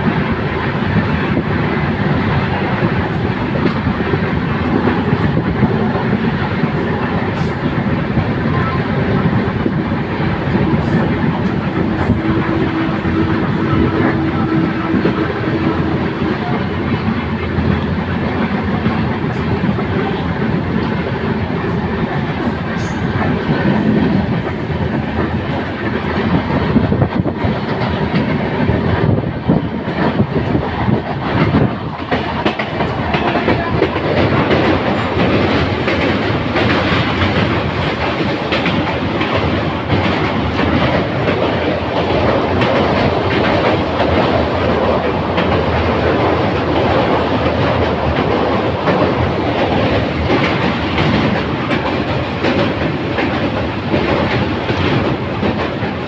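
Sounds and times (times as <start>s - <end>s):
train rumbling: 0.0s - 56.0s
wheels clattering on rails: 0.0s - 56.0s.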